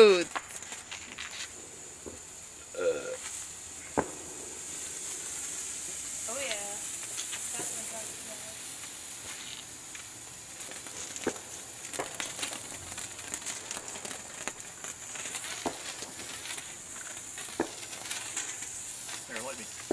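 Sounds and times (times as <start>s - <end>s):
sharp pops: 0.0s - 19.9s
sparkler hissing and crackling: 0.0s - 19.9s.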